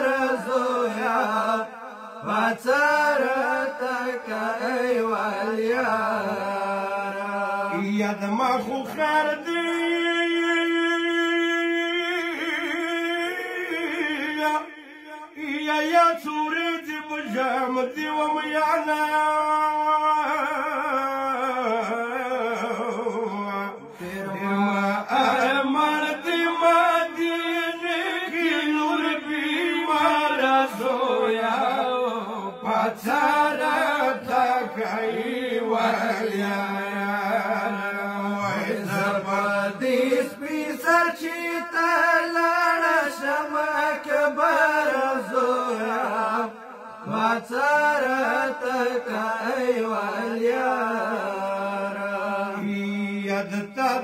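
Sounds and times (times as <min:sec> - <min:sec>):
man singing unaccompanied lament: 0:00.0 - 0:54.0.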